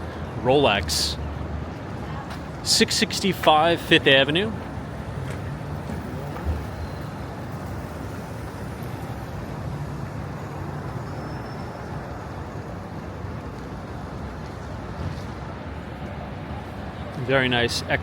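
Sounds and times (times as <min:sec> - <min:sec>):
street traffic engine hum: 0:00.0 - 0:18.0.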